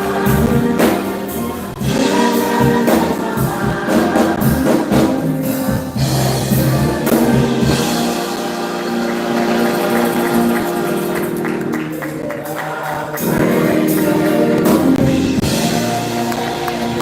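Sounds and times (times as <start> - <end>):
choir singing gospel music: 0.0 - 17.0.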